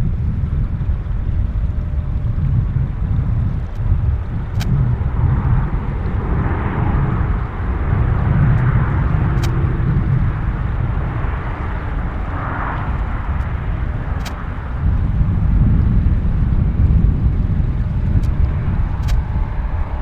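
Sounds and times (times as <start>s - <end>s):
jet airliner rolling on runway: 0.0s - 20.0s.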